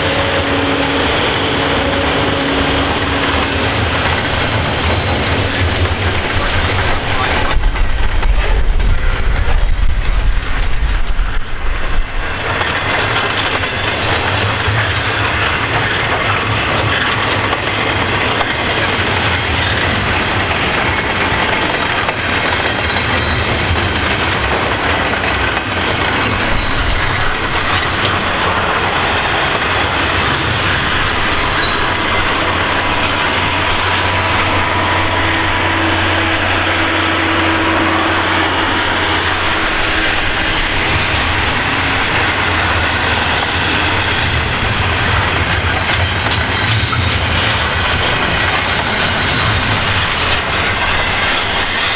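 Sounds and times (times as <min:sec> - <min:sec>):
train clatter: 0:00.0 - 0:51.9
train wheels rolling on rails: 0:00.0 - 0:51.9.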